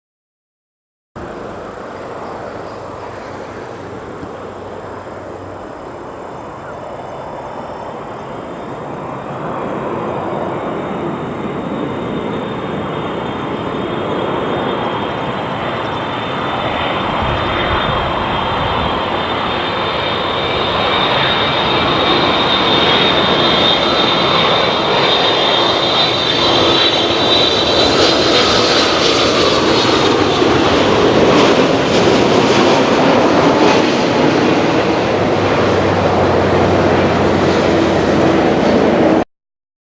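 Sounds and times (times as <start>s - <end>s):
jet airliner rumble: 1.2s - 39.3s
jet engine high whine: 1.2s - 39.3s.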